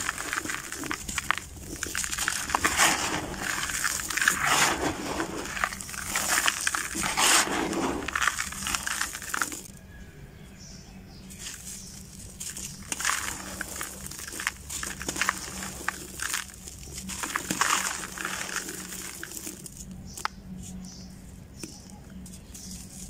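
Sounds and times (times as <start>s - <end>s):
grains trickling: 0.0s - 9.7s, 11.3s - 20.3s
gritty block crunching by hand: 0.0s - 9.7s, 11.3s - 21.0s.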